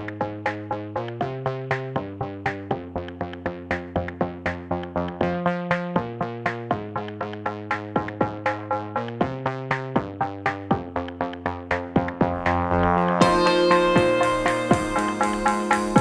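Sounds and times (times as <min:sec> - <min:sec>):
drum-machine beat: 0:00.0 - 0:16.0
synthesizer chords: 0:00.0 - 0:16.0.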